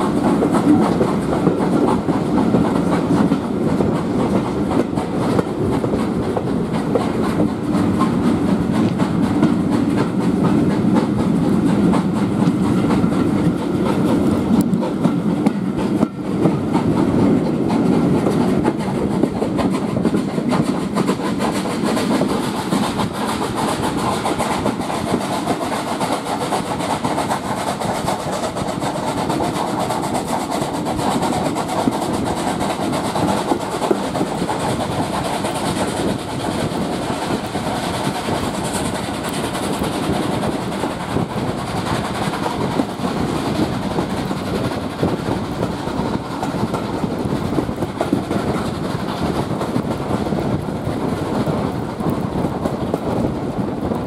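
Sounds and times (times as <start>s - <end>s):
train coaches running noise: 0.0s - 54.0s
wheels clicking on track: 0.0s - 54.0s.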